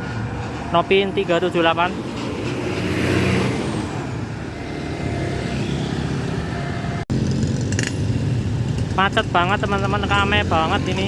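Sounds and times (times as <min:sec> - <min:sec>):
bus diesel engine running: 0:00.0 - 0:04.6, 0:06.1 - 0:11.0.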